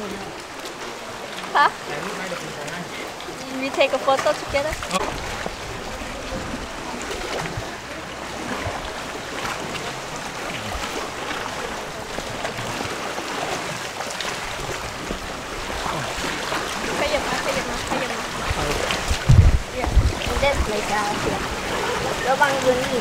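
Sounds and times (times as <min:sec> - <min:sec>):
paddle dips: 0:00.0 - 0:23.0
water lapping and sloshing: 0:00.0 - 0:23.0.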